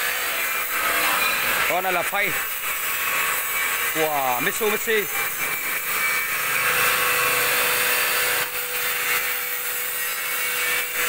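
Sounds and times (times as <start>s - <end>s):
machine whine: 0.0s - 11.0s
milling machine cutting metal: 0.0s - 11.0s.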